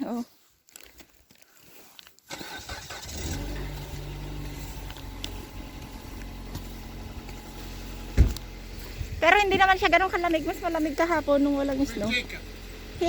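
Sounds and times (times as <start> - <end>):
car engine starting and idling: 2.3 - 13.0.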